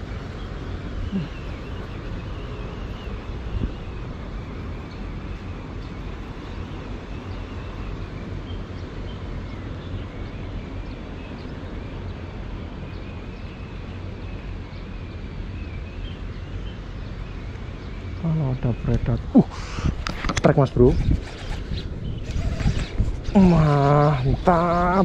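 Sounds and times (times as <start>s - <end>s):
distant traffic: 0.0s - 25.0s
wind rumble on microphone: 0.0s - 25.0s.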